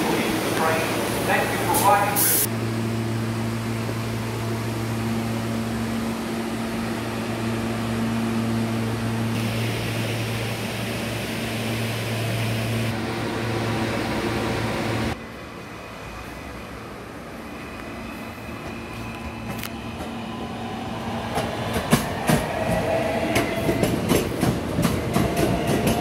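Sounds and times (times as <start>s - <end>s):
subway car equipment humming: 0.0s - 26.0s.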